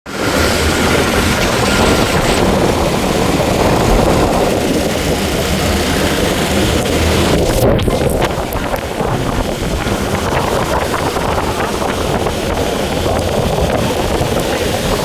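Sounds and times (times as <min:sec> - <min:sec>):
motorcycle engine hum: 0:00.1 - 0:15.0
wind and road noise: 0:00.1 - 0:15.0.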